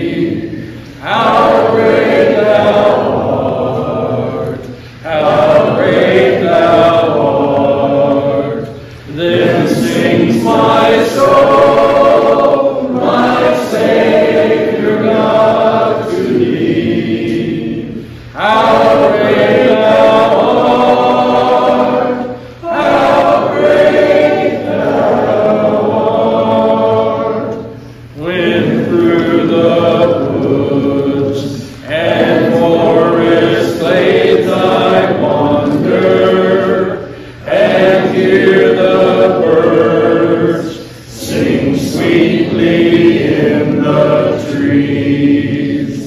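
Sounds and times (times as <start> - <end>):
congregation singing a hymn: 0.0 - 46.0.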